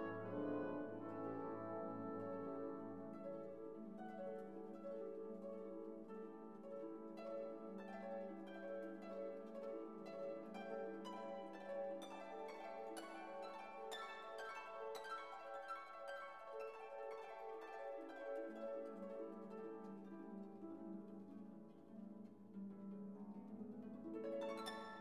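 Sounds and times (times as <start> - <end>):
soft plucked harp-like music: 0.0 - 25.0.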